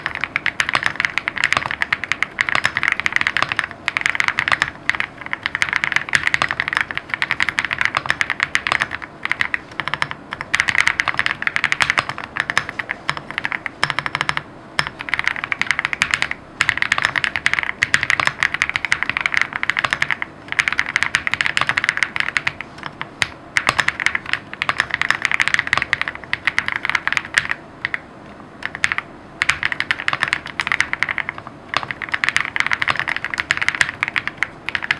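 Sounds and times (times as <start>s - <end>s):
mechanical keyboard typing: 0.0s - 28.0s, 28.6s - 34.9s.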